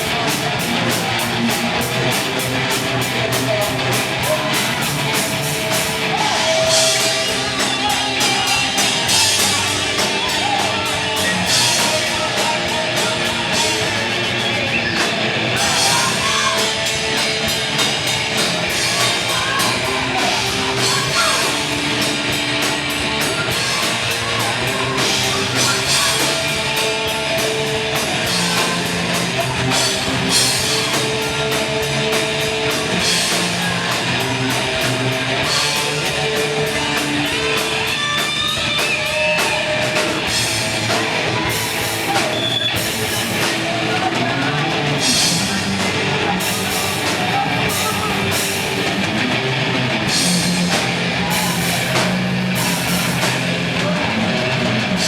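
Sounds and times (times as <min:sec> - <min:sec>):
distorted electric guitars: 0:00.0 - 0:55.0
drum kit: 0:00.0 - 0:55.0.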